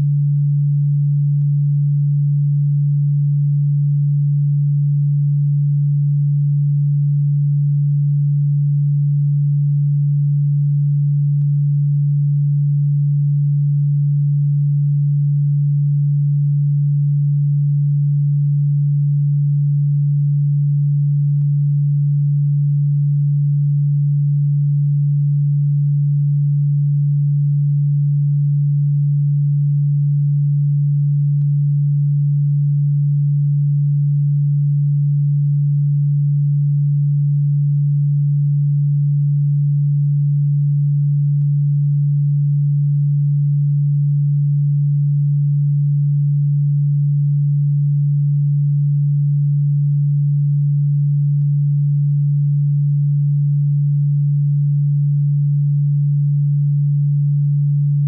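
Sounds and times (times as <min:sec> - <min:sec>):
low pure electronic tone: 0:00.0 - 0:58.0.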